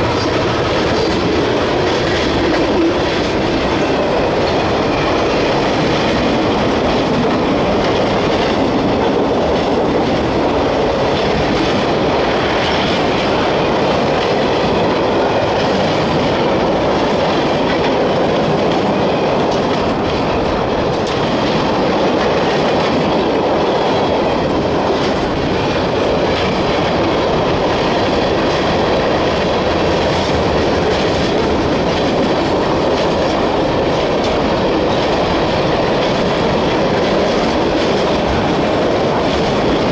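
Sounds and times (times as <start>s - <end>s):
steel wheels rumbling on rail: 0.0s - 39.9s
wheels clacking over rail joints: 0.0s - 39.9s.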